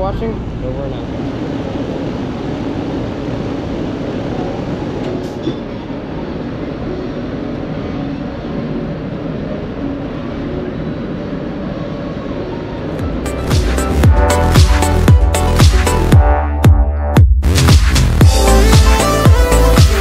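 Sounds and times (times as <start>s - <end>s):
condenser fan rushing: 0.0s - 16.1s
air conditioner hum: 0.0s - 16.2s.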